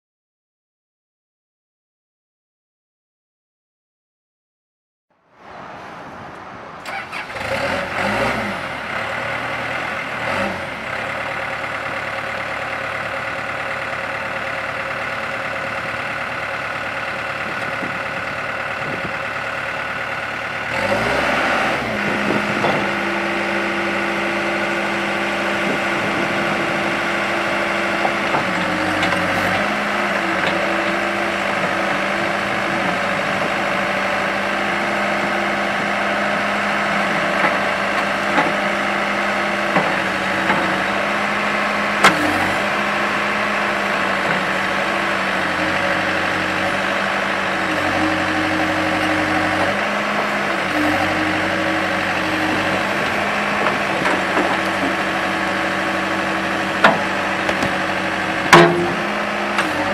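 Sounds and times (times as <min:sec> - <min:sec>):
diesel backhoe engine revving: 0:06.8 - 0:59.9.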